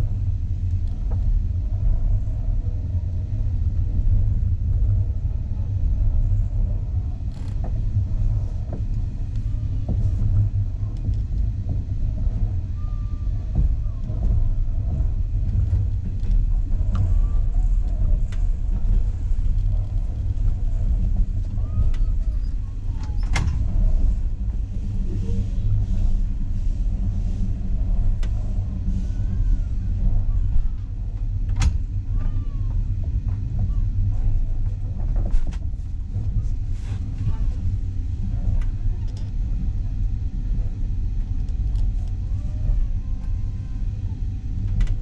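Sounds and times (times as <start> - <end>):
train wheels rumbling on track: 0.0 - 45.0.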